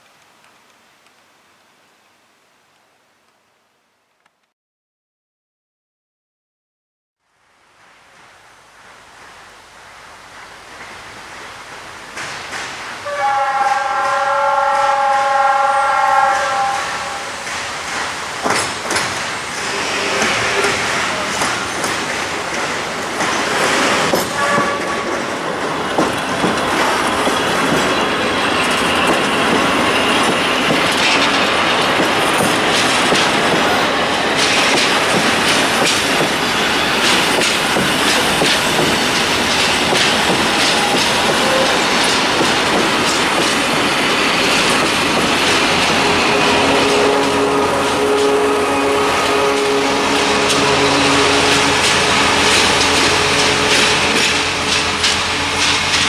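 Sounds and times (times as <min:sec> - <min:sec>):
freight train wheels clattering: 0:09.1 - 0:15.4, 0:16.3 - 0:56.0.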